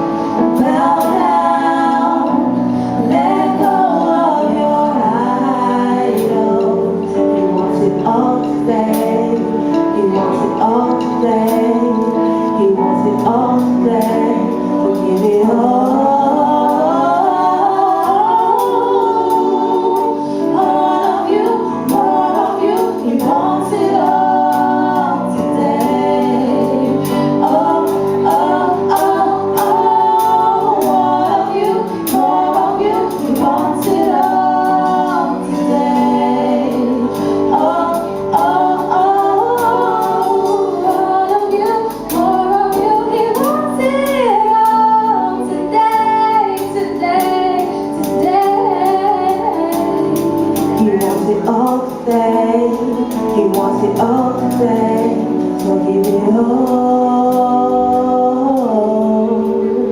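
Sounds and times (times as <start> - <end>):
gospel choir singing: 0.0 - 59.9.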